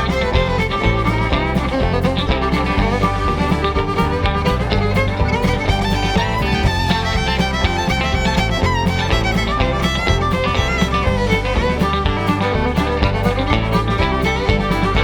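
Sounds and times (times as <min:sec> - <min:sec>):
bass line: 0:00.0 - 0:15.0
fiddle melody: 0:00.0 - 0:15.0
steady beat: 0:00.0 - 0:15.0.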